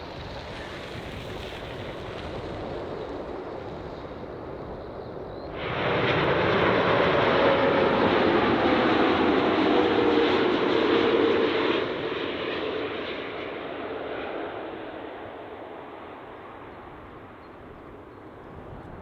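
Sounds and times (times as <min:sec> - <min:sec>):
jet airliner engines: 0:00.0 - 0:19.0.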